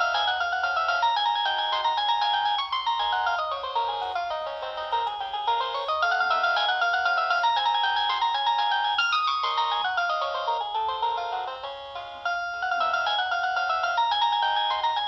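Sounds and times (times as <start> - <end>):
polyphonic phone ringtone: 0.0 - 15.0.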